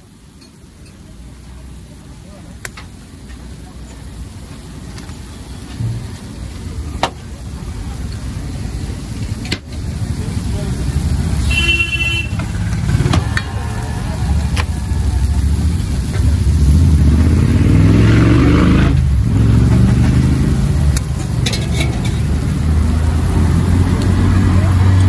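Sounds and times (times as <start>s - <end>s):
eggs sizzling on griddle: 0.0s - 25.0s
street traffic rumbling: 0.0s - 25.0s.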